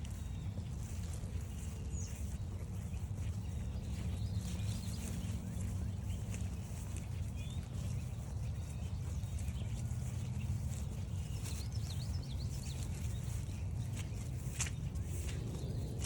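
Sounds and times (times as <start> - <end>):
footsteps on a trail: 0.0 - 16.0
songbird chirping: 0.0 - 16.0
steady low rumble: 0.0 - 16.0.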